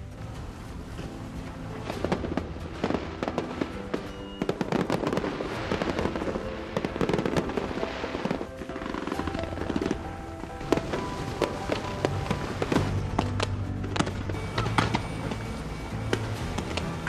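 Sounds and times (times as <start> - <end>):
fireworks banging and crackling: 0.0 - 17.0
music: 0.0 - 17.0.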